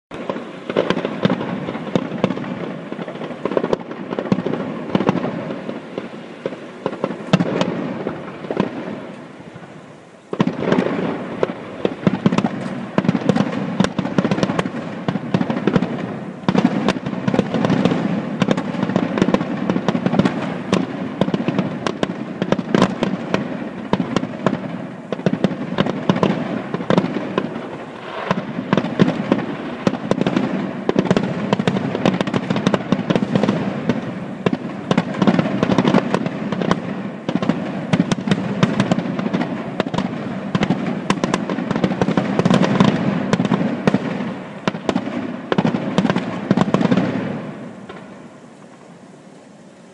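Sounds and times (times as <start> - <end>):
fireworks bangs and crackles: 0.1 - 49.9.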